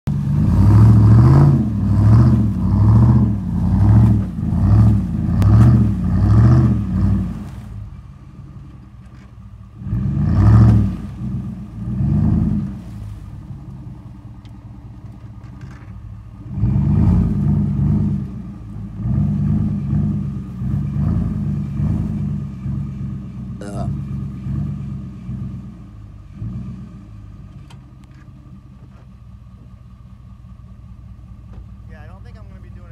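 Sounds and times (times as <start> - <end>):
pickup truck engine revving: 0.0 - 32.9.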